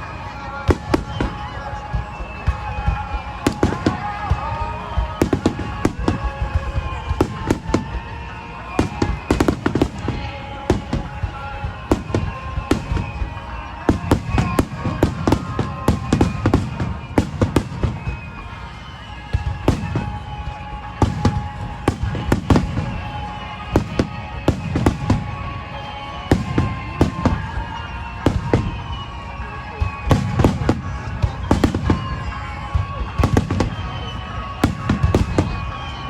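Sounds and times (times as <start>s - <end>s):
fireworks bursting with sharp bangs: 0.0s - 36.0s
music with held notes: 0.0s - 36.0s.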